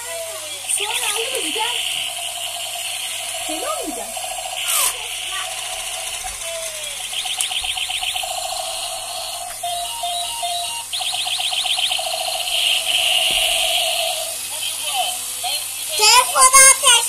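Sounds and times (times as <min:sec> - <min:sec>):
fast pulsing electronic warble: 0:00.0 - 0:17.0
toy robot walking: 0:00.0 - 0:17.0
electronic beeping tones: 0:00.7 - 0:14.4.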